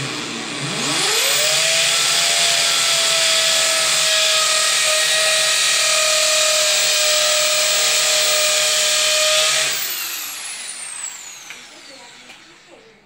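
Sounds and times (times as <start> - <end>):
electric drill boring into wall: 0.0 - 13.0.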